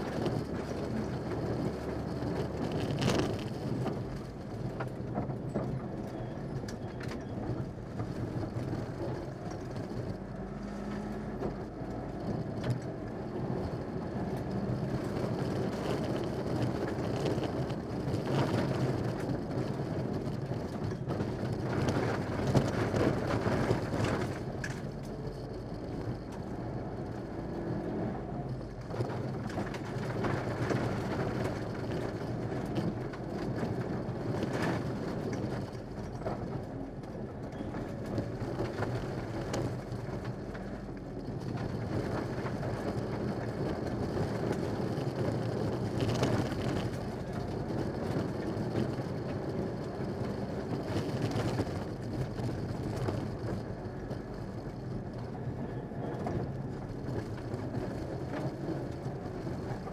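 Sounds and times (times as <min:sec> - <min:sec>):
gravel striking car: 0:00.0 - 0:59.9
rally car engine running hard: 0:00.0 - 0:59.9.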